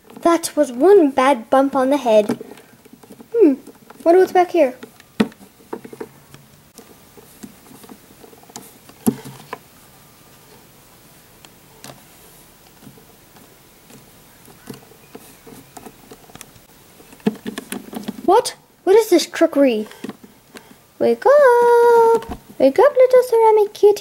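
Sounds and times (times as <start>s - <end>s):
faint room hiss: 0.0s - 24.0s.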